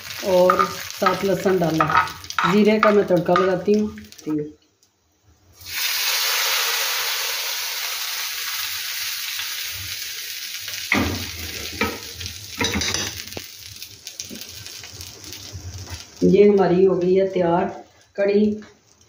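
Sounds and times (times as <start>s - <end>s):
hot oil sizzling: 0.0s - 4.6s, 5.4s - 19.0s.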